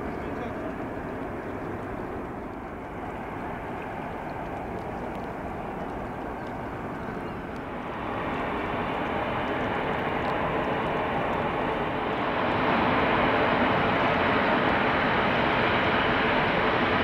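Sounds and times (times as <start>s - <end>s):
distant jet engine rush: 0.0s - 17.0s.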